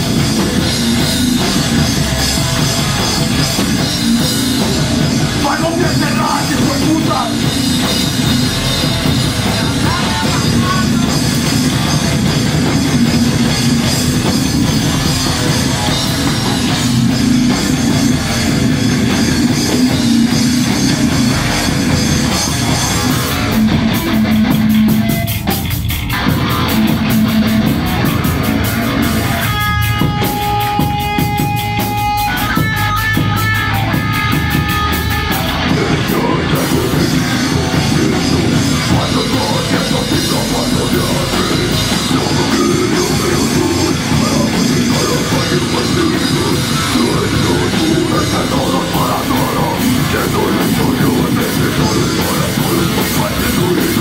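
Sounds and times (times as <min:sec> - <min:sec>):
distorted guitar and bass: 0:00.0 - 0:54.0
fast pounding drums and cymbals: 0:00.0 - 0:54.0.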